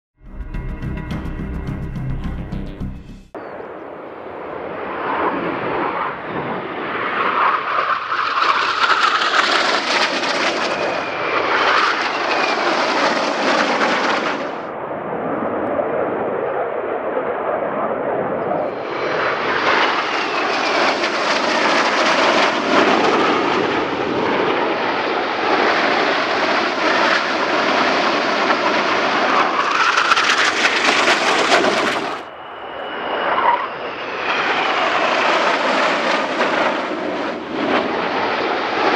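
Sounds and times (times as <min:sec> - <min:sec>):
jets flying past roaring: 0:01.6 - 0:38.9.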